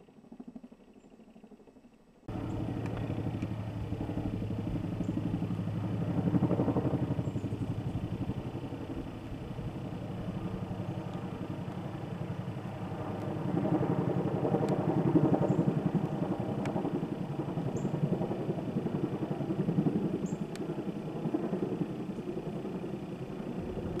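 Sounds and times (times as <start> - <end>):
helicopter rotors beating: 0.0 - 24.0
turboprop aircraft drone: 0.0 - 24.0.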